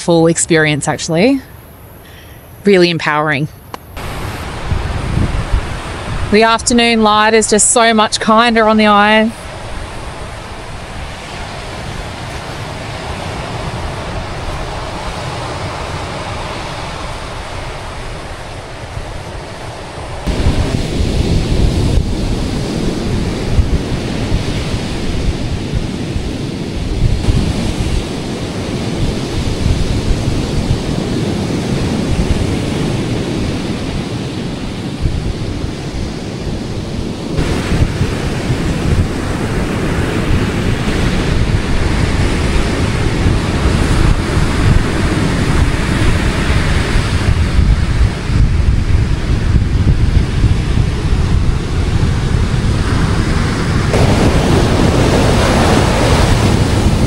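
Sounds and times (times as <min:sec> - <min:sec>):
wind buffeting microphone: 0:02.8 - 0:57.0
surf washing onto beach: 0:04.0 - 0:57.0.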